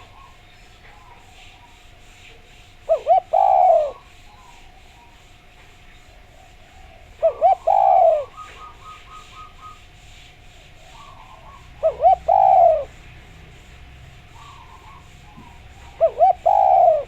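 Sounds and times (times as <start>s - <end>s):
dove cooing: 0.0s - 5.4s, 6.1s - 17.0s.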